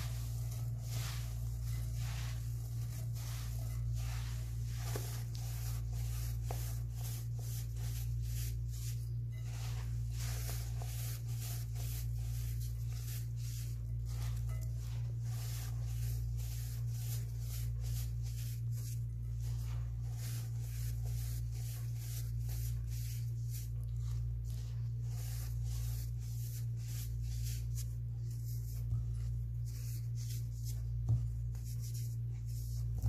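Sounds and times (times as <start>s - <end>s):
gritty powder crunching in a bowl: 0.0s - 33.0s
steady low hum: 0.0s - 33.0s.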